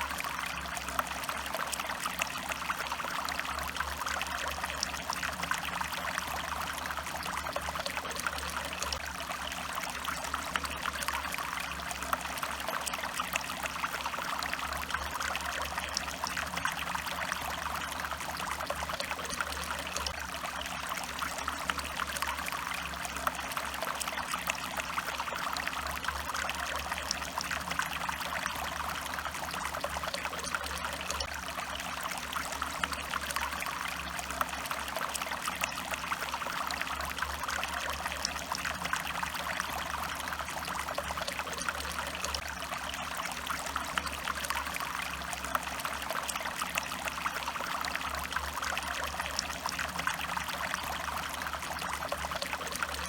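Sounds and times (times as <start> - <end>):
stream of water trickling: 0.0 - 53.0.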